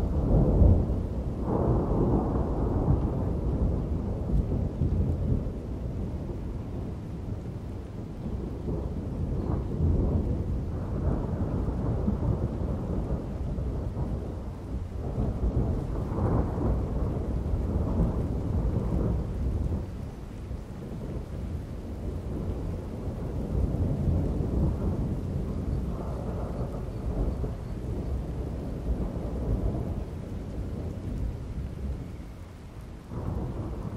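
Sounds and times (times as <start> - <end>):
rain falling: 0.0 - 33.9
rolling thunder: 0.0 - 33.9.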